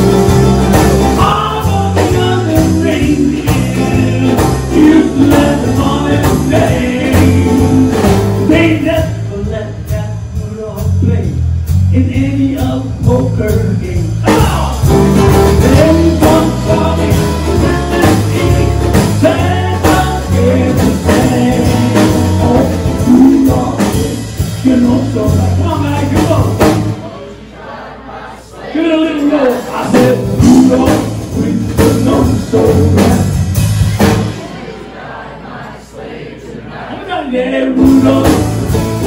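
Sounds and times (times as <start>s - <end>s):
electric bass: 0.0s - 27.0s, 29.8s - 34.4s, 37.8s - 39.0s
guitar: 0.0s - 27.1s, 29.0s - 34.7s, 37.7s - 39.0s
drums: 0.0s - 39.0s
man singing: 1.1s - 15.0s, 15.6s - 27.2s, 28.7s - 33.6s, 37.0s - 39.0s.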